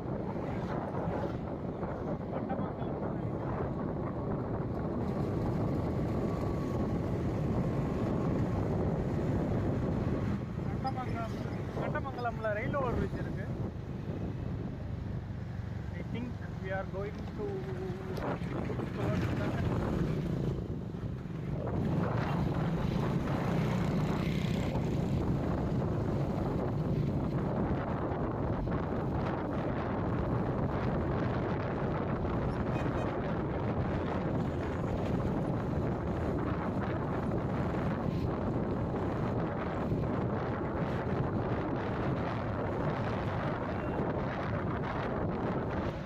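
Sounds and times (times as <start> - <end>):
wind buffeting microphone: 0.0 - 15.4, 16.1 - 46.0
vehicle road and engine noise: 0.0 - 46.0.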